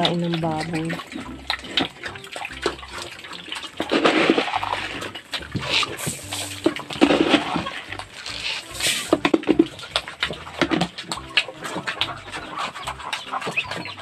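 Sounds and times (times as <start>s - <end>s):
pigs slurping and chewing: 0.0s - 14.0s
wet bursts: 0.0s - 14.0s.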